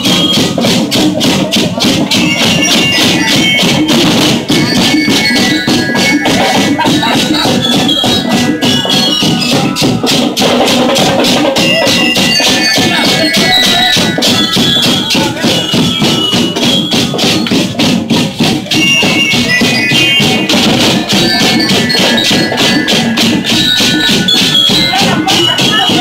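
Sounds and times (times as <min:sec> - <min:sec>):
bell-like melody: 0:00.0 - 0:26.0
snare and tenor drums: 0:00.0 - 0:26.0.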